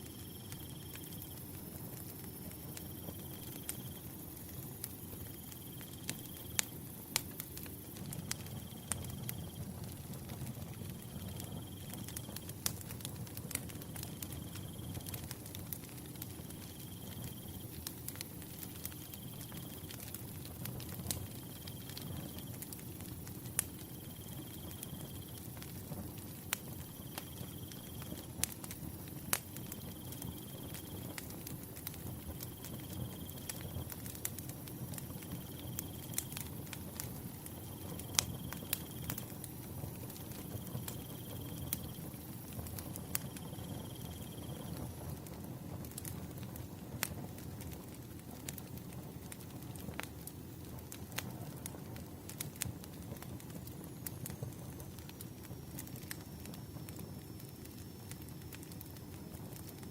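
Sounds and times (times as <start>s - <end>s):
firewood burning and crackling: 0.0s - 59.9s.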